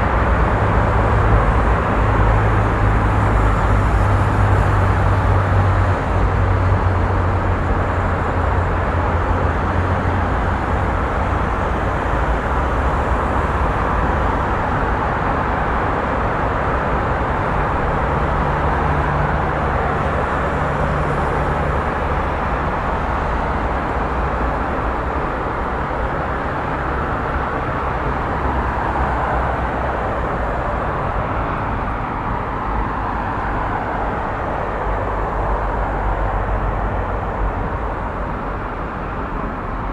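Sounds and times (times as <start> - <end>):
motor vehicle rumble: 0.0 - 39.9.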